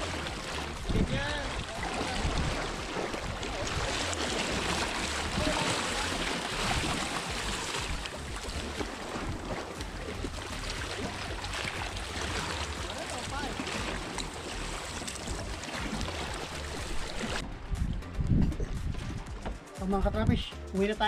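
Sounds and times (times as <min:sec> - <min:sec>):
water washing: 0:00.0 - 0:17.4
wind rumbling on microphone: 0:00.0 - 0:19.4.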